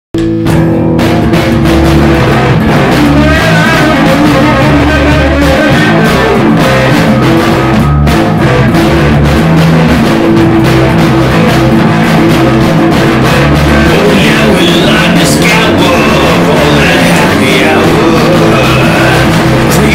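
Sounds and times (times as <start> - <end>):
drum kit: 0.1 - 19.9
guitar riff: 0.2 - 19.9.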